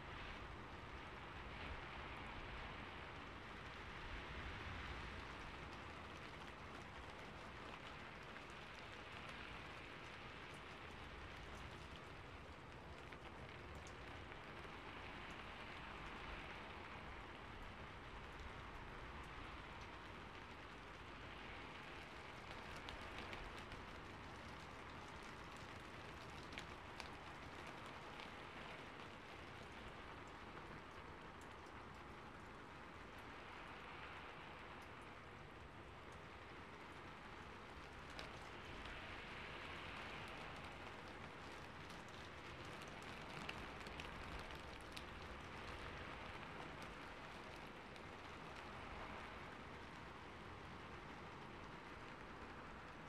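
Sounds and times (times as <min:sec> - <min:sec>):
faint rain patter: 0:00.0 - 0:53.0.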